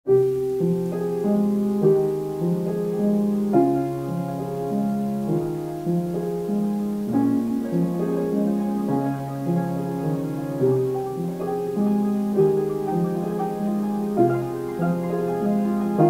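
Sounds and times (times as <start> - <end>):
ambient piano loop with delay: 0.1 - 16.0.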